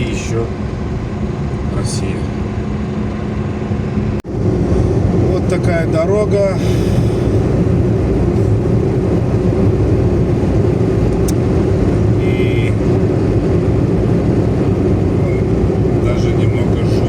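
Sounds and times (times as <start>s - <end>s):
car engine and road drone: 0.0s - 17.0s.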